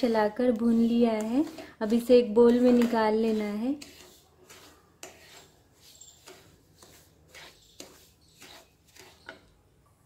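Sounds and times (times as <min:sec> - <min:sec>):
wooden spatula scraping pan: 0:00.0 - 0:09.5.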